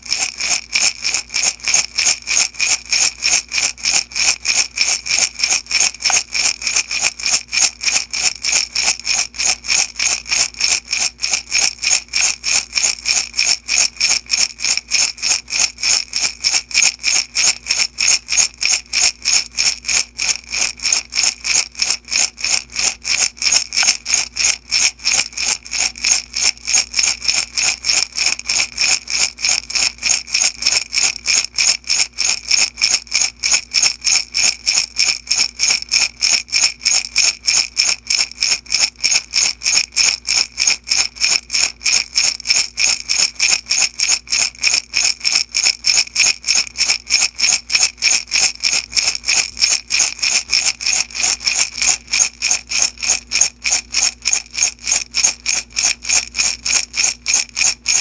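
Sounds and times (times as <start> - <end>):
beads rattling in glass jar: 0.0 - 58.0.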